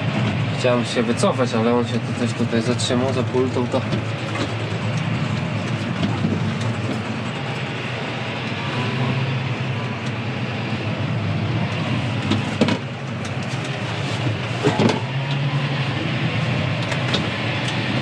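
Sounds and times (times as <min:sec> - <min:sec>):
tractor engine humming: 0:00.0 - 0:18.0.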